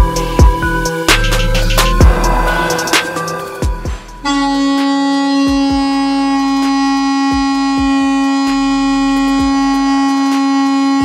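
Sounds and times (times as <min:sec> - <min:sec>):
balloon bugle buzzing note: 0:01.8 - 0:11.0.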